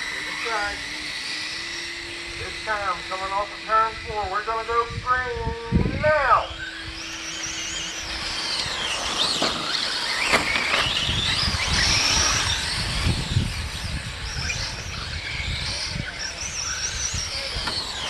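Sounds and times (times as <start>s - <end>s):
rc car motors whining: 0.0s - 18.0s.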